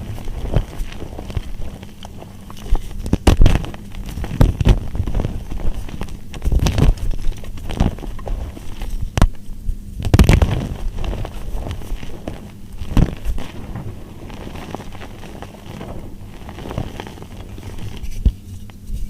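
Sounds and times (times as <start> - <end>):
soap crunching and cracking: 0.0 - 9.4, 10.0 - 18.8.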